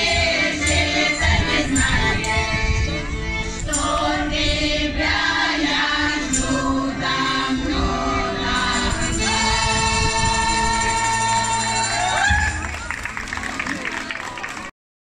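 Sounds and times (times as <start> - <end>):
women's choir singing: 0.0 - 12.4
accordion: 0.0 - 14.0.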